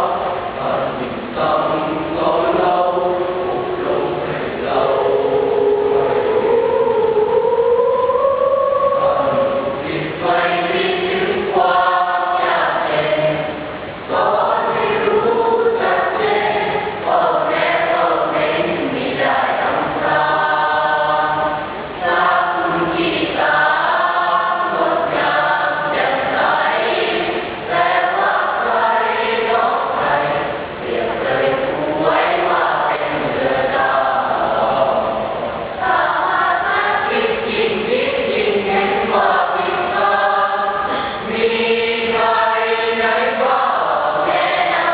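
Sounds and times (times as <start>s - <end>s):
children's choir singing: 0.0s - 44.9s.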